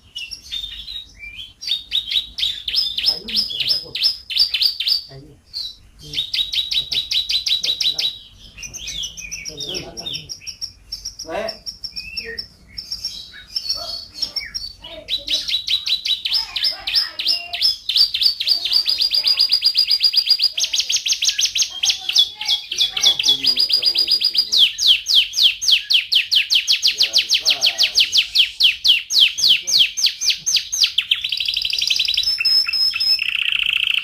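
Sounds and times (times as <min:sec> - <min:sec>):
canary singing: 0:00.0 - 0:34.0.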